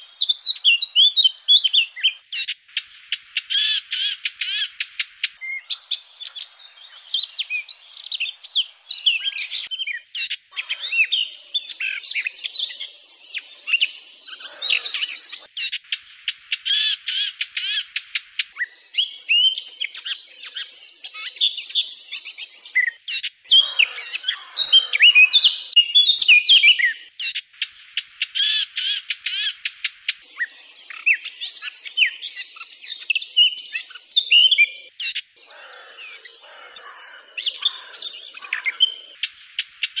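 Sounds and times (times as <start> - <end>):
bird warbling song: 0.0 - 40.0.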